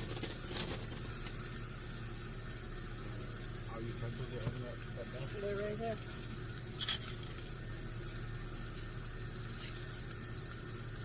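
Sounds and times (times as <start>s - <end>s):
pork chops sizzling: 0.0s - 11.0s
steady low hum: 0.0s - 11.0s.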